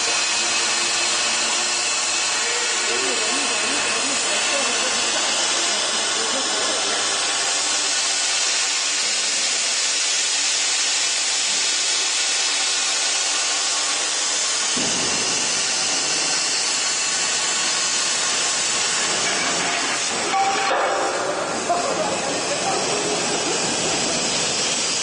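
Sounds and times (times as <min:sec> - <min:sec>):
plasma torch cutting steel hiss: 0:00.0 - 0:25.0.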